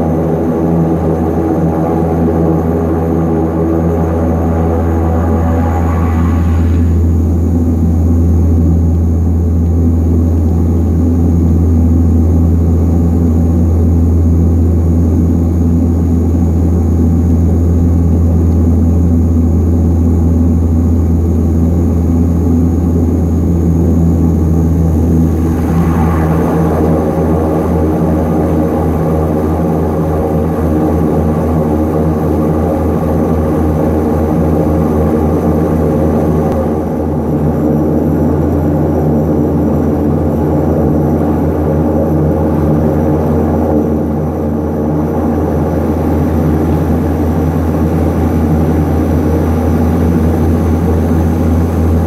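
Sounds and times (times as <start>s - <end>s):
turboprop engines droning: 0.0s - 52.0s.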